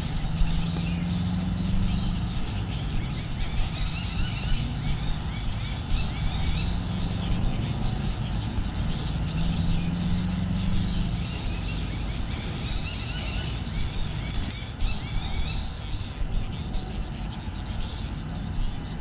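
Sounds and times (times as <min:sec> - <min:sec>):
distant road traffic rumble: 0:00.0 - 0:19.0
faint high chirps: 0:00.0 - 0:19.0.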